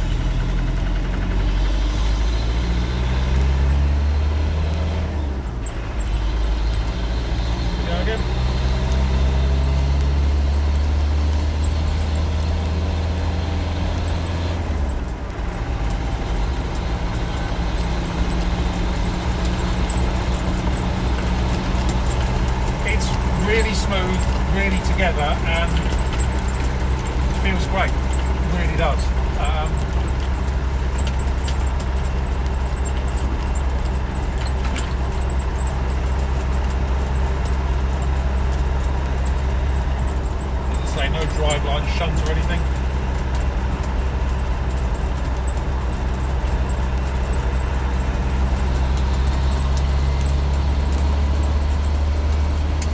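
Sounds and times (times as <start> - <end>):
diesel engine pulling away: 0.0 - 52.9
road noise: 0.0 - 52.9
light ticks: 8.5 - 52.9.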